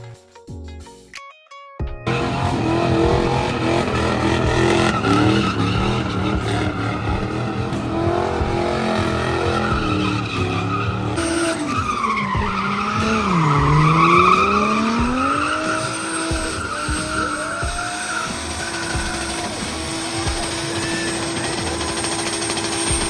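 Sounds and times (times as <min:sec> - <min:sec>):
car engine revving hard: 0:02.1 - 0:23.0
tyres squealing: 0:02.1 - 0:23.0.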